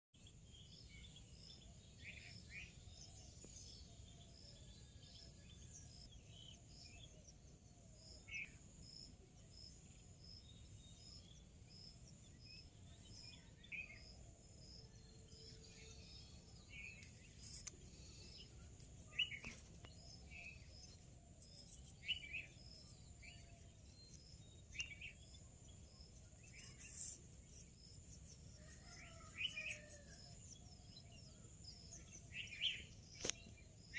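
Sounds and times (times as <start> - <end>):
faint bird chirps: 0.2 - 33.9.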